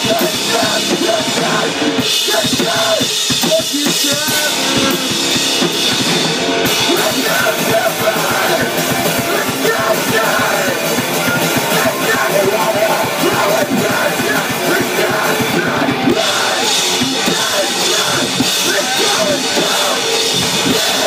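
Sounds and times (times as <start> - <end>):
person singing into microphone: 0.0 - 5.2, 6.8 - 21.0
drum kit fast hits: 0.0 - 21.0
electric guitar: 0.0 - 21.0
rock band playing live: 0.0 - 21.0.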